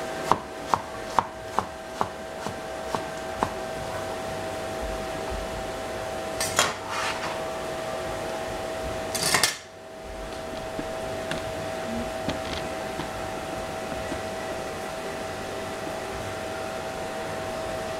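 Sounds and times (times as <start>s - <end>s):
steady background hum: 0.0s - 17.9s.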